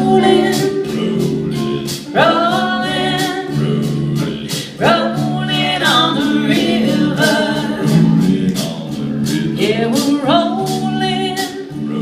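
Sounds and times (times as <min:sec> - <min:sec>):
live band playing: 0:00.0 - 0:12.0
people singing: 0:00.0 - 0:12.0.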